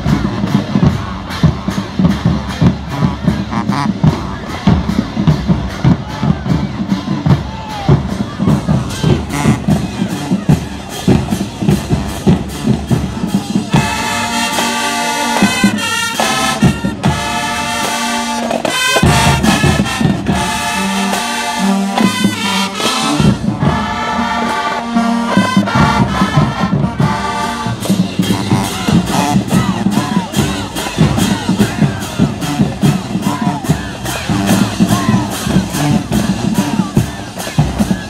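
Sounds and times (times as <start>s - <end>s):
brass section chords: 0.0s - 7.3s, 8.1s - 38.0s
marching band drumline: 0.0s - 38.0s.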